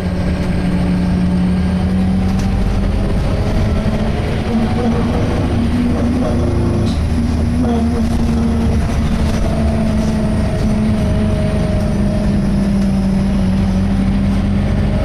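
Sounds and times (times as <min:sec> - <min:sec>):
bus engine rumble: 0:00.0 - 0:15.0
loud groaning tone: 0:00.0 - 0:15.0.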